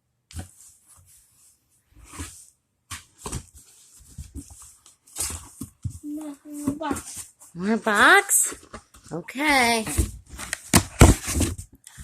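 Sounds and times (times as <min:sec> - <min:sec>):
plush toy and box rustling: 0:00.4 - 0:12.0.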